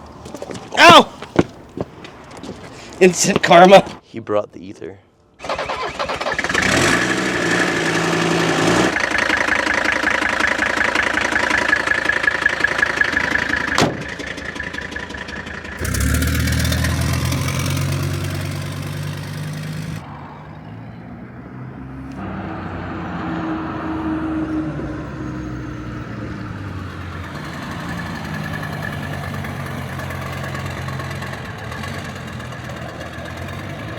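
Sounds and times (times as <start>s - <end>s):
diesel engine revving: 5.4s - 33.9s.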